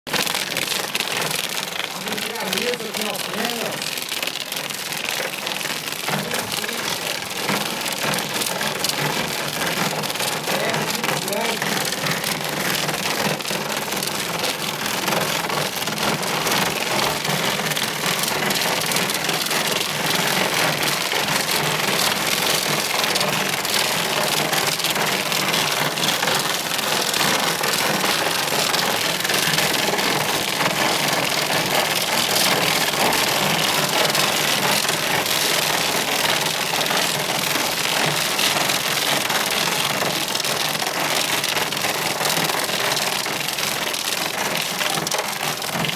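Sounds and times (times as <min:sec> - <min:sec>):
hail and heavy rain falling: 0:00.1 - 0:45.9.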